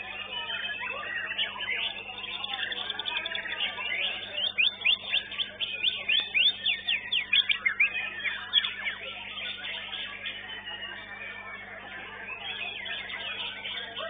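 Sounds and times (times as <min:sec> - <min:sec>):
bird singing whistled notes: 0:00.0 - 0:14.0.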